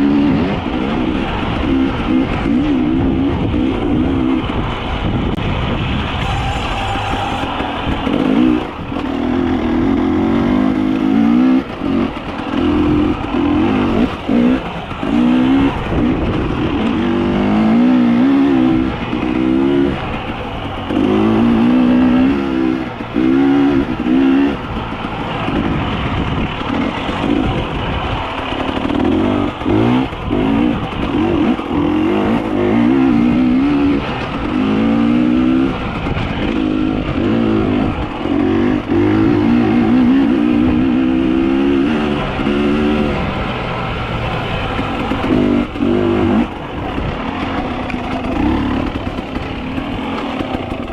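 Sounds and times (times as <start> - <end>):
engines revving hard: 0.0 - 50.9
steady engine drone: 0.0 - 50.9.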